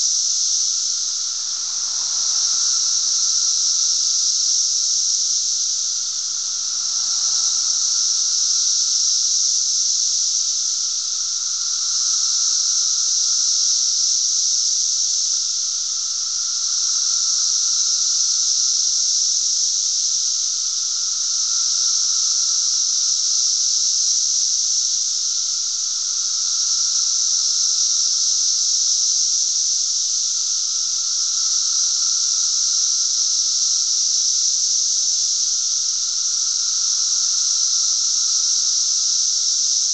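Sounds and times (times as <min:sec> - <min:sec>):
cicada chorus high drone: 0:00.0 - 0:39.9.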